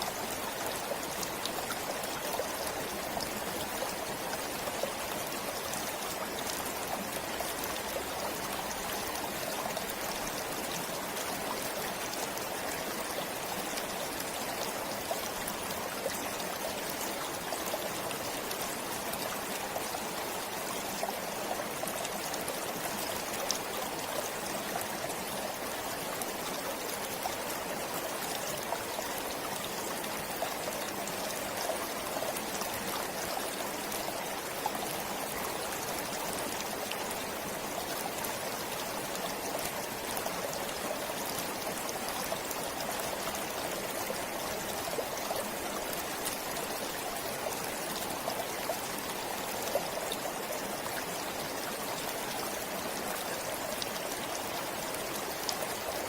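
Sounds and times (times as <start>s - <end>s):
stream babbling and trickling: 0.0s - 56.0s.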